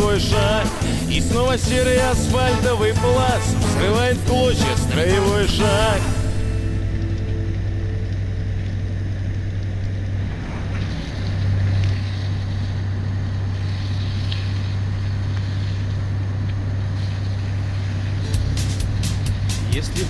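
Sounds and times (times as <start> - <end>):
rushing noise: 0.0 - 20.0.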